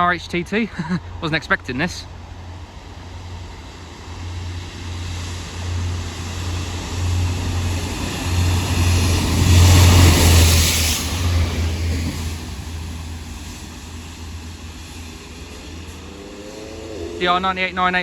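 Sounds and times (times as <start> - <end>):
diesel engine rumble: 0.0 - 18.0
train wheel noise on track: 0.0 - 18.0.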